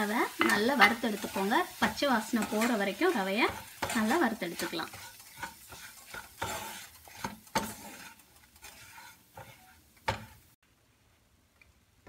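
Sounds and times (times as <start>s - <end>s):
wooden spatula scraping pan: 0.0s - 10.6s
faint sizzle: 0.0s - 12.0s.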